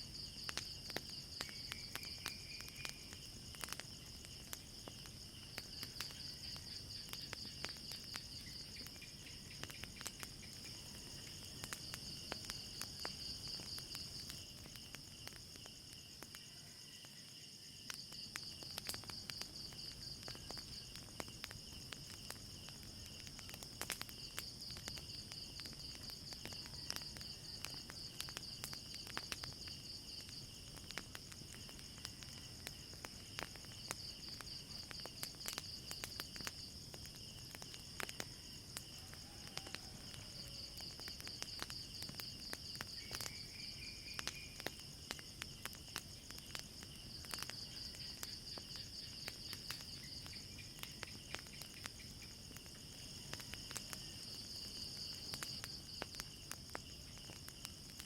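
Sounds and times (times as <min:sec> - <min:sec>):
crickets chirping: 0:00.0 - 0:58.0
wood fire crackling: 0:00.0 - 0:58.0.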